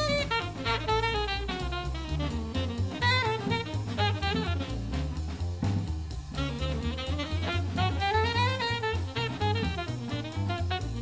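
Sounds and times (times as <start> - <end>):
jazz music: 0.0 - 11.0.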